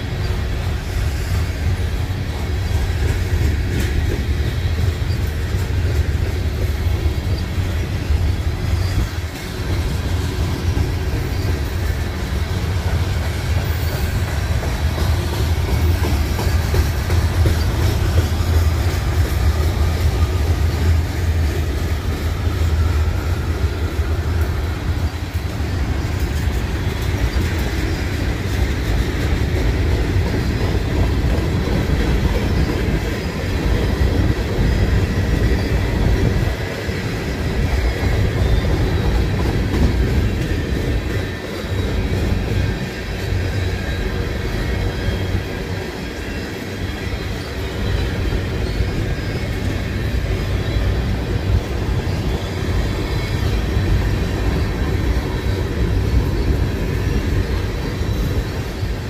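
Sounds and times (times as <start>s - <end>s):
steel wheels rumbling on rail: 0.0s - 59.0s
wheels clicking over rail joints: 0.0s - 59.0s.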